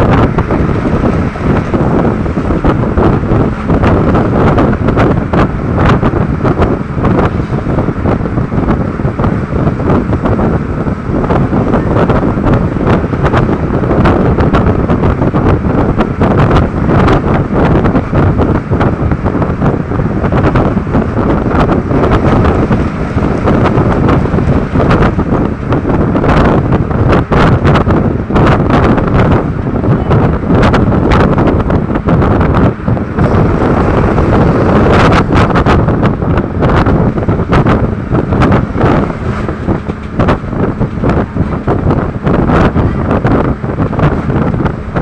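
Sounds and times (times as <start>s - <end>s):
vehicle running noise: 0.0s - 45.0s
wind buffeting microphone: 0.0s - 45.0s.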